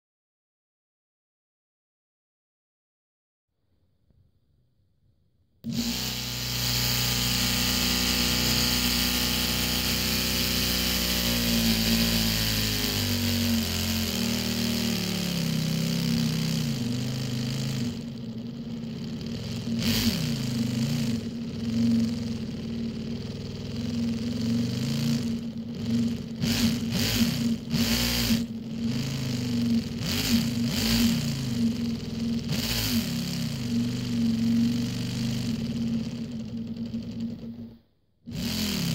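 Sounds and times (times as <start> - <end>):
model engine mechanical whir: 5.7 - 38.9.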